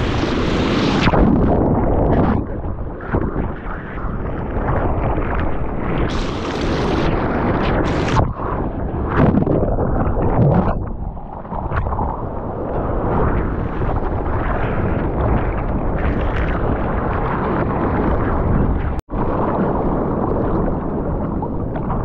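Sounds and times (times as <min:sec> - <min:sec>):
ocean water rushing and splashing: 0:00.0 - 0:22.0
wind on microphone: 0:00.0 - 0:22.0.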